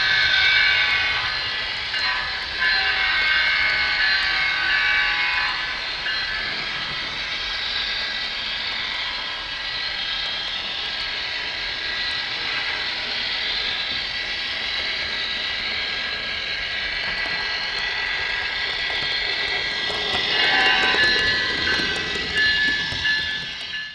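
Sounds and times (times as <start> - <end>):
metal wheels rushing on rails: 0.0 - 23.9.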